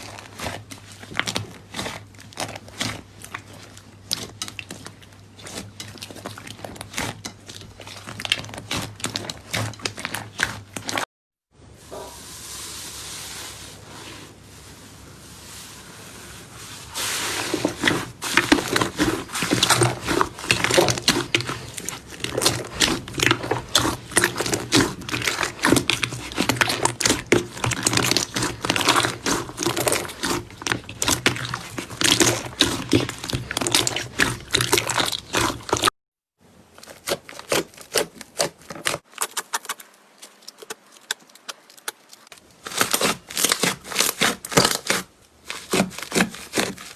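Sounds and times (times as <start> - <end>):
slime squishing and crackling: 0.0 - 11.0, 17.1 - 35.9, 36.7 - 46.9.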